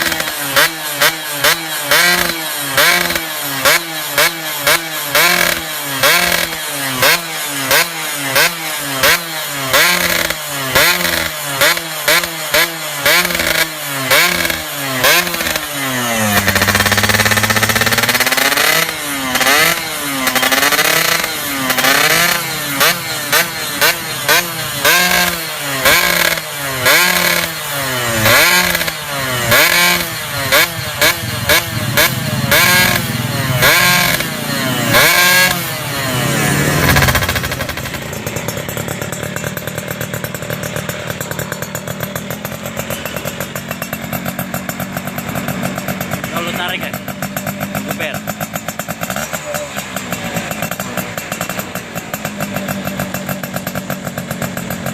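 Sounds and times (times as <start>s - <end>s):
two-stroke engine revving: 0.0s - 54.9s.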